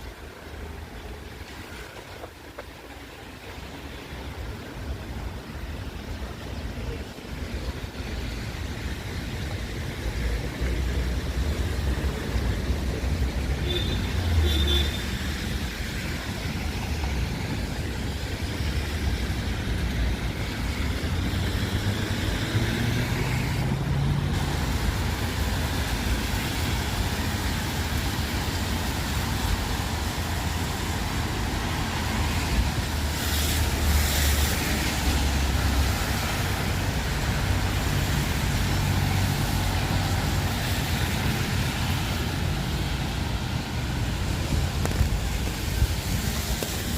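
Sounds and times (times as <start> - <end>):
low rumble of engines: 0.0 - 46.9
tyres hissing on wet road: 0.0 - 46.9.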